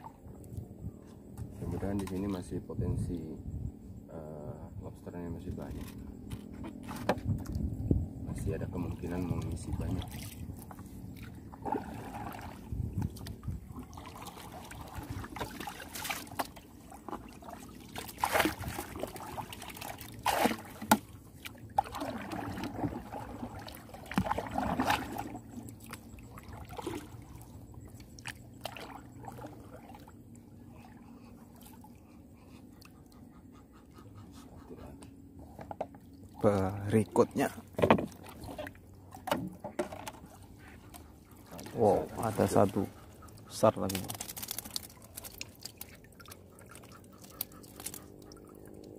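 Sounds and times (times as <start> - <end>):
water splashing and trickling: 5.0 - 34.1, 34.7 - 48.9.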